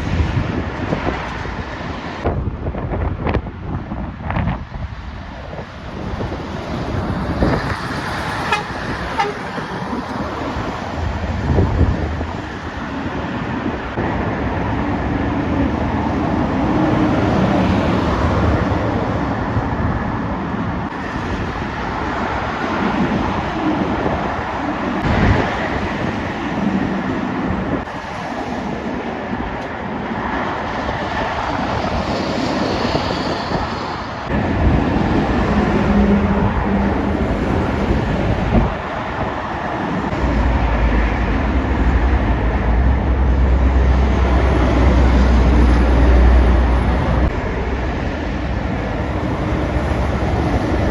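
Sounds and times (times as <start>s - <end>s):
heavy trucks passing: 0.0s - 50.9s.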